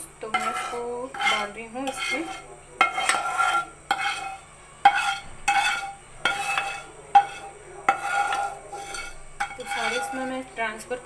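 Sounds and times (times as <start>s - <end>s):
spoon scraping a pan: 0.0s - 11.0s
spoon knocking against a pan: 0.3s - 10.3s.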